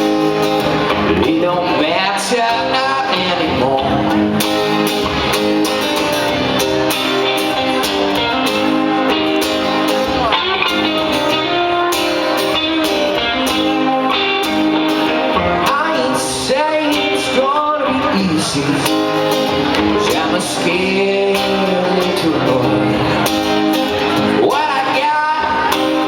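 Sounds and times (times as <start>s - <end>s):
strummed guitar: 0.0s - 26.0s.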